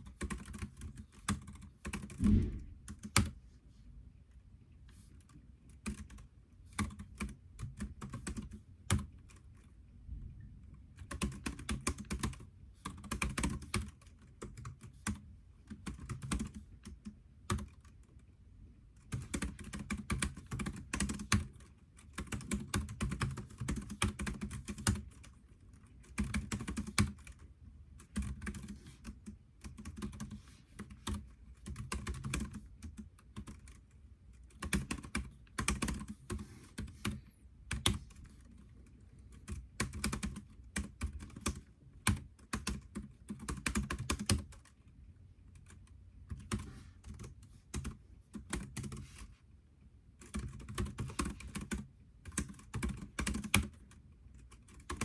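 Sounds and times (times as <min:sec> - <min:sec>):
typing on computer keyboard: 0:00.0 - 0:03.4, 0:05.2 - 0:09.7, 0:11.0 - 0:18.1, 0:19.0 - 0:44.8, 0:45.6 - 0:49.3, 0:50.2 - 0:55.0.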